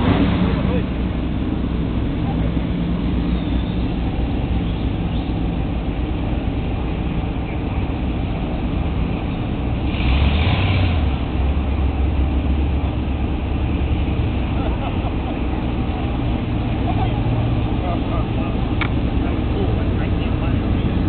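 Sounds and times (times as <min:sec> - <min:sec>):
car engine rumble from inside: 0:00.0 - 0:21.0.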